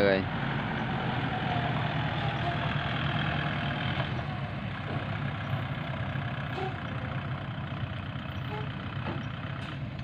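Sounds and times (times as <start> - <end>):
dump truck driving: 0.0 - 10.0
tractor idling: 0.0 - 10.0.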